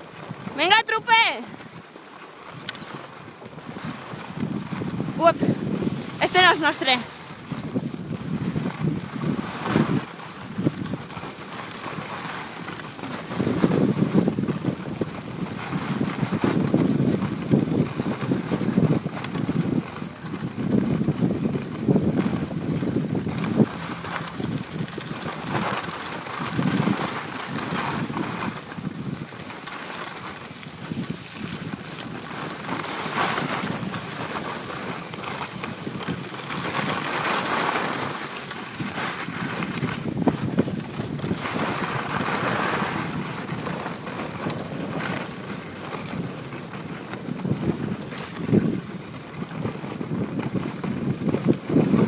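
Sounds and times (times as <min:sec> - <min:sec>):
skis scraping on snow: 0:00.0 - 0:52.0
wind on microphone: 0:00.0 - 0:52.0.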